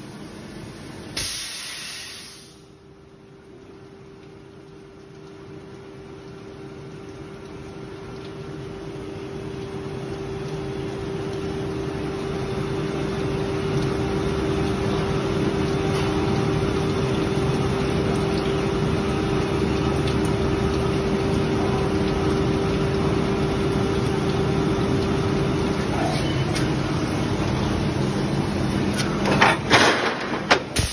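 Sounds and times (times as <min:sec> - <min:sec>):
machine hum: 0:04.4 - 0:30.9.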